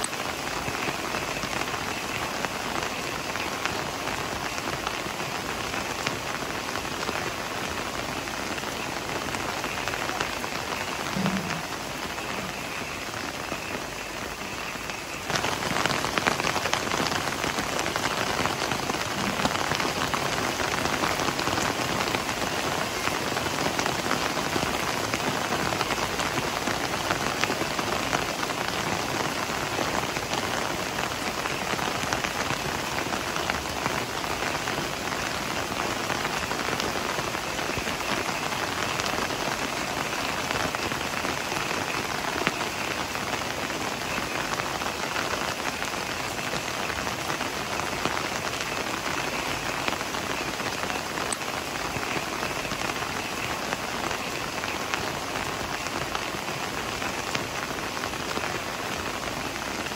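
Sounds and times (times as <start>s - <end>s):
heavy rain on leafy plants: 0.0s - 59.9s.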